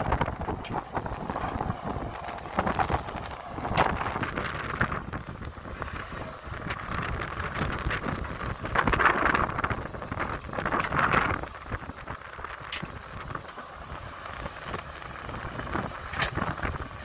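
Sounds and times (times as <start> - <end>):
excavator engine rumbling: 0.0 - 17.0
wind buffeting microphone: 0.0 - 17.0.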